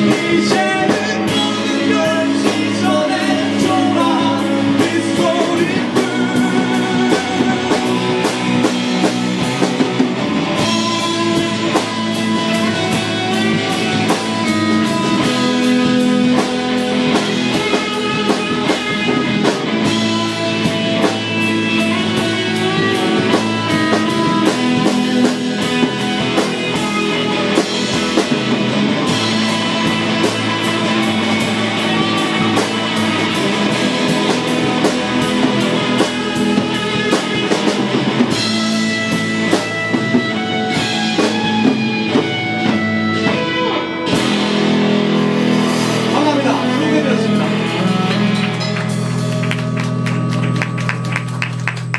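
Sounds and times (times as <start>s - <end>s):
drums: 0.0s - 51.9s
electric guitar melody: 0.0s - 51.9s.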